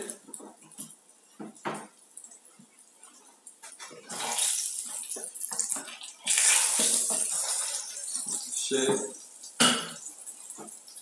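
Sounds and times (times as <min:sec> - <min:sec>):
spatula stirring sauce in pan: 0:00.2 - 0:11.0.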